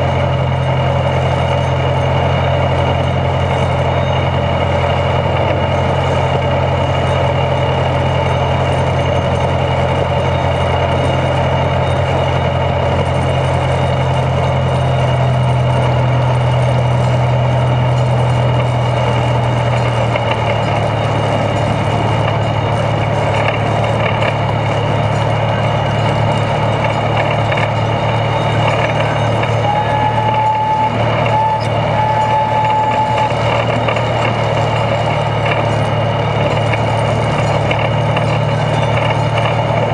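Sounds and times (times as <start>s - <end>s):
high squeal: 0.0s - 39.9s
locomotive engine drone: 0.0s - 39.9s.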